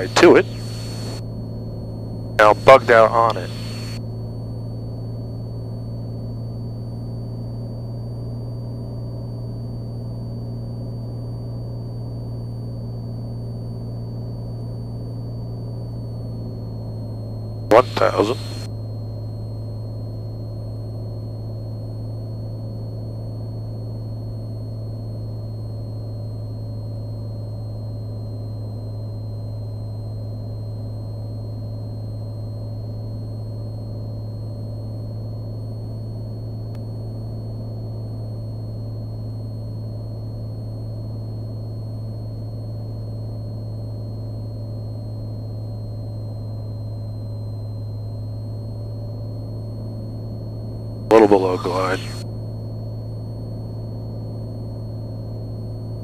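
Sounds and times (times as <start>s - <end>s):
propeller plane engine drone: 0.0s - 40.1s, 42.0s - 52.8s
faint high whine: 0.0s - 56.0s.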